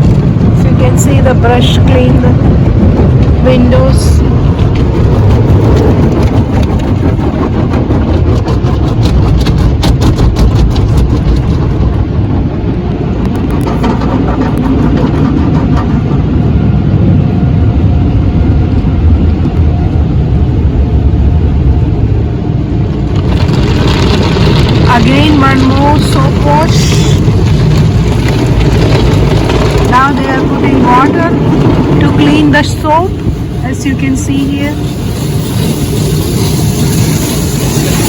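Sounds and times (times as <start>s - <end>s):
car wash machinery rumble: 0.0s - 38.0s.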